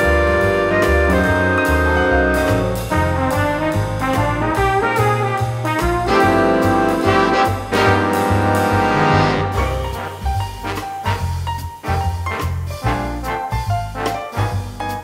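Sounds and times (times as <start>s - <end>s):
swing jazz with brass: 0.0s - 15.0s.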